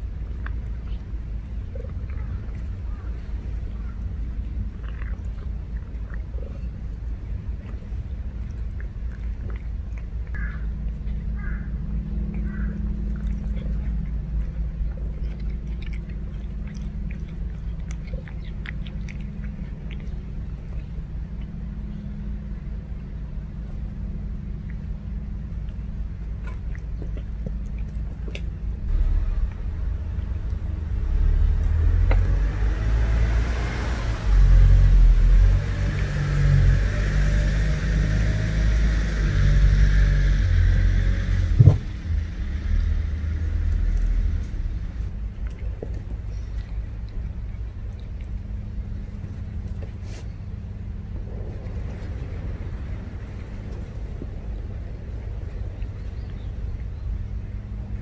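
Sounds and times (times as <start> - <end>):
cats chewing food: 0.0 - 40.0, 40.6 - 58.0
constant low rumble: 0.0 - 58.0
vehicle engine: 0.0 - 58.0.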